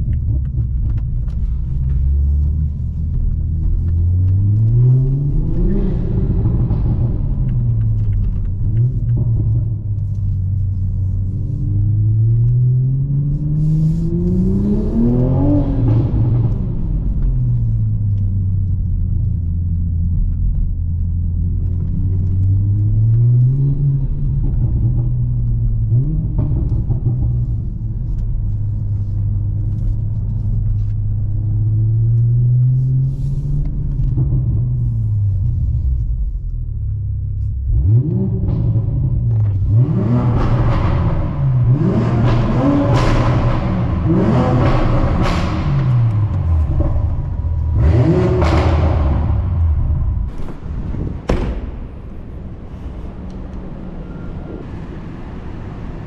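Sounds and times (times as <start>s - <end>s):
car engine revving: 0.0s - 36.3s, 37.3s - 56.0s.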